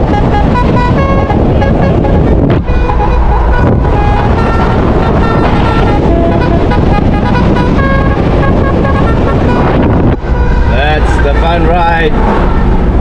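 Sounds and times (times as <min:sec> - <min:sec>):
engine and road noise: 0:00.0 - 0:13.0
musical vehicle horn: 0:00.0 - 0:13.0.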